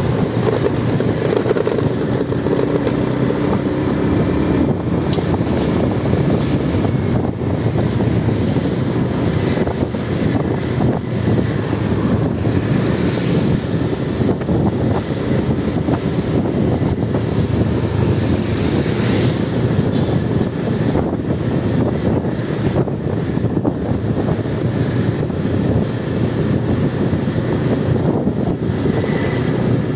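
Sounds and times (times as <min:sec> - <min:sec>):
wind and road noise: 0:00.0 - 0:29.9.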